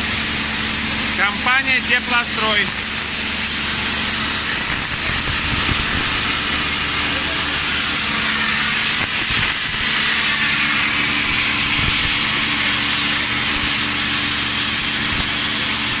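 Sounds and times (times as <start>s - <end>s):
low machine hum: 0.0s - 16.0s
plasma torch hissing: 0.8s - 16.0s.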